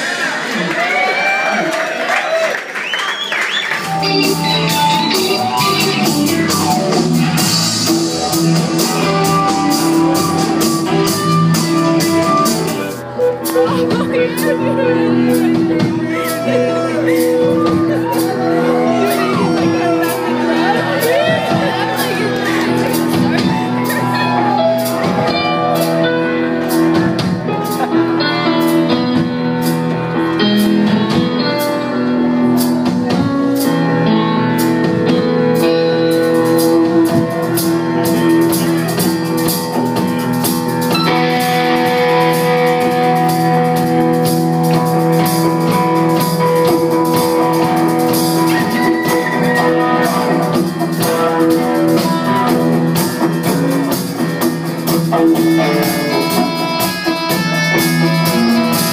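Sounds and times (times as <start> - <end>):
drum kit beat: 3.6 - 58.9
electric guitar: 3.6 - 58.9.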